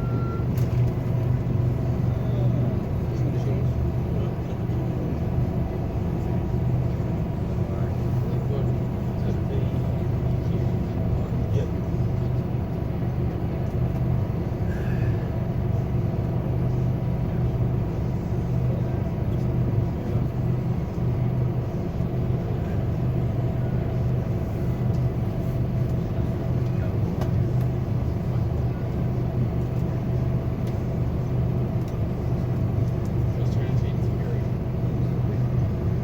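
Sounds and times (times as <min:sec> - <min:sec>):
bus diesel engine drone: 0:00.0 - 0:36.0
road noise: 0:00.0 - 0:36.0.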